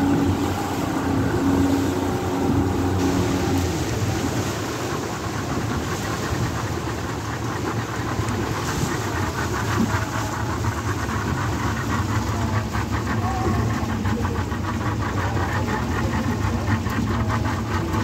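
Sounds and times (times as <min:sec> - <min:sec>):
motorboat engine running: 0:00.0 - 0:18.0
water slapping against hull: 0:00.0 - 0:18.0.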